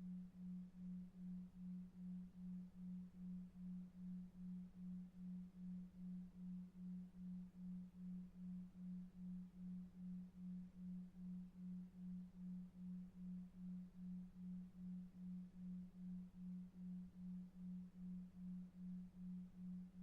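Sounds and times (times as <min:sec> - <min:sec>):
low pulsing pure tone: 0:00.0 - 0:20.0.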